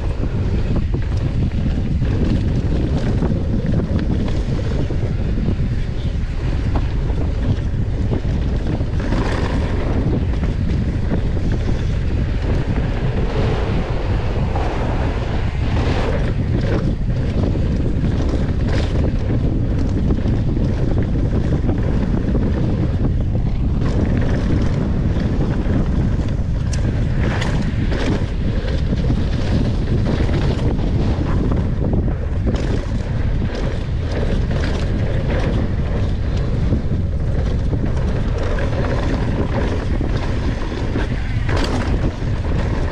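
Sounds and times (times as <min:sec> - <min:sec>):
bike knocking and rattling: 0:00.0 - 0:42.9
wind rushing over microphone: 0:00.0 - 0:42.9.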